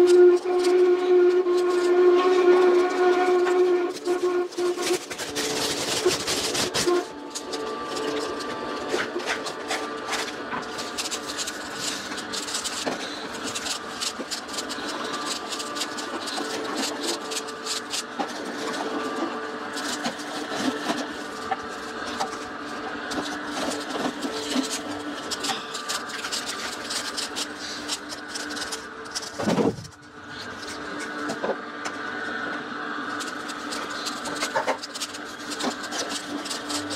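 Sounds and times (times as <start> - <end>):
auger crunching greens: 0.0 - 31.5, 32.9 - 36.9
juicer motor humming: 0.0 - 36.9.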